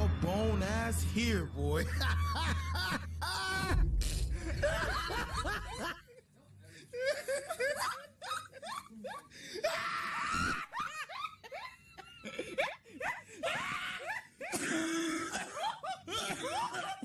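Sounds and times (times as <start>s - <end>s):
people laughing hard: 1.8s - 3.8s, 4.4s - 17.0s
shrieking laughter: 1.8s - 6.2s, 6.9s - 17.0s.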